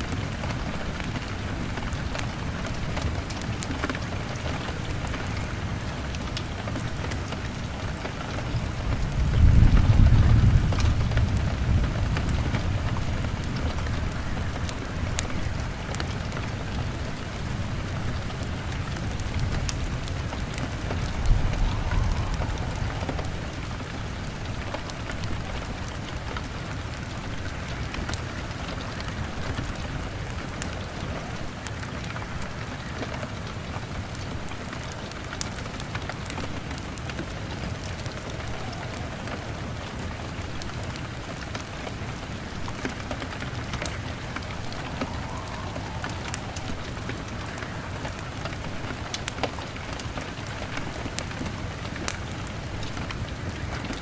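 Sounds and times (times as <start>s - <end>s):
fire crackling and popping: 0.0s - 54.0s
rain on window glass: 0.0s - 54.0s.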